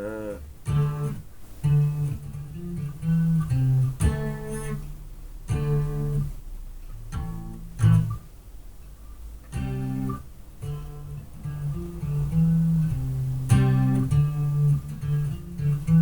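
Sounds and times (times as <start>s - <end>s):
electric bass guitar riff: 0.0s - 8.2s, 9.5s - 16.0s.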